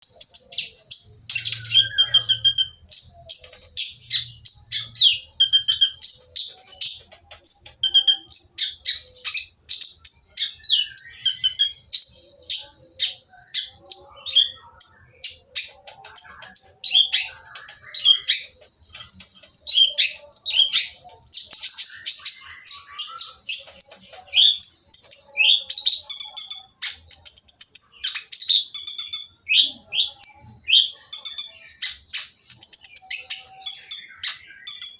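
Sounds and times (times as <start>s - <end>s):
bird singing harsh rapid chirps: 0.0s - 34.9s.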